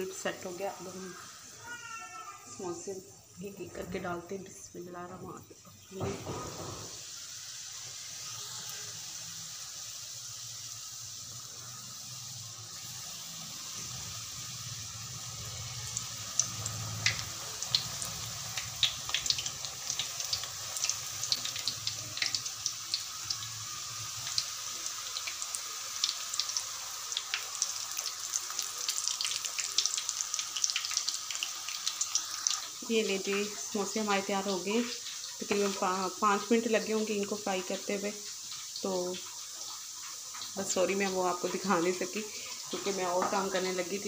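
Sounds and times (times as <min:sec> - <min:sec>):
deep-frying sizzle: 0:00.0 - 0:44.0.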